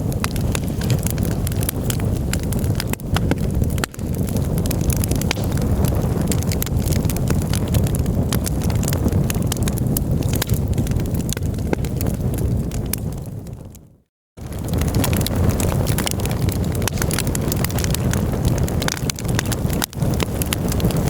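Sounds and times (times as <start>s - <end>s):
campfire crackling and popping: 0.0s - 21.0s
wind on microphone: 0.0s - 21.0s.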